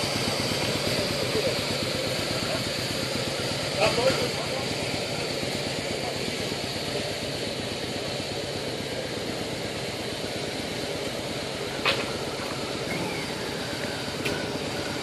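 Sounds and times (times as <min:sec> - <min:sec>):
motorcycle engines at low revs: 0:00.0 - 0:15.0.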